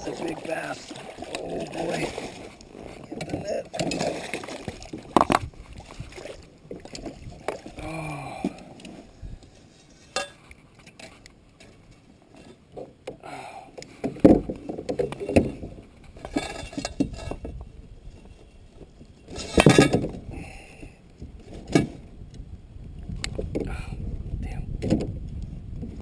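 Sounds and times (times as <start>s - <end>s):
fishing gear rattling against boat: 0.0s - 22.4s, 23.1s - 26.0s.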